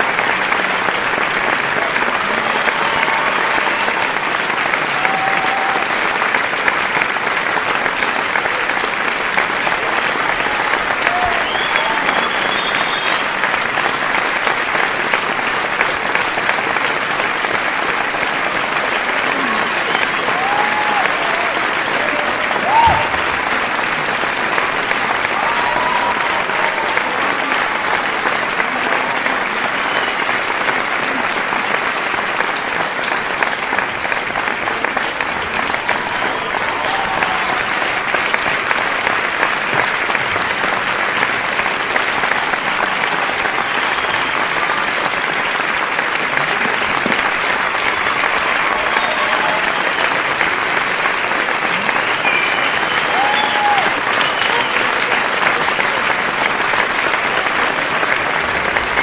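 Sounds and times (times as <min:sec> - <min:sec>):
crowd applauding: 0:00.0 - 0:59.0.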